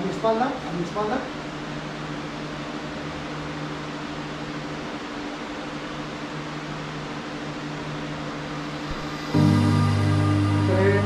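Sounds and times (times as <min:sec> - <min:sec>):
cooling fans whirring: 0:00.0 - 0:11.0
low electrical hum: 0:00.0 - 0:11.0.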